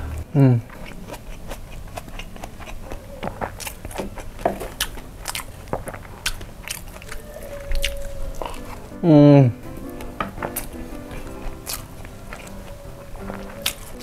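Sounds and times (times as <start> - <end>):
person chewing with wet smacks: 0.0 - 9.0, 9.8 - 14.0.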